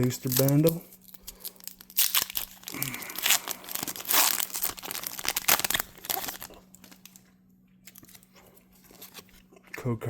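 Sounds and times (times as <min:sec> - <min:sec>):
plastic packaging crinkling and tearing: 0:00.0 - 0:09.5.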